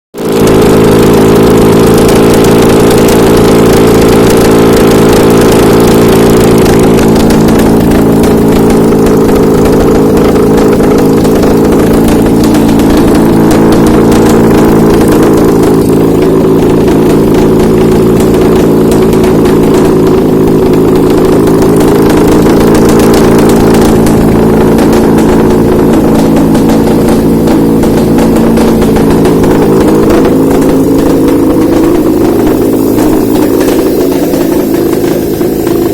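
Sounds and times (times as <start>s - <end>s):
car engine idling: 0.1s - 35.9s.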